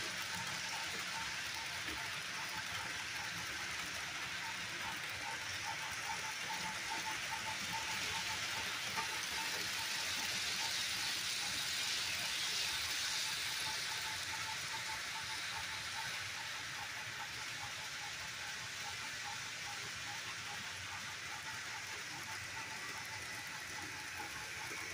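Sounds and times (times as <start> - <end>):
model train wheels hissing on rails: 0.0 - 24.9.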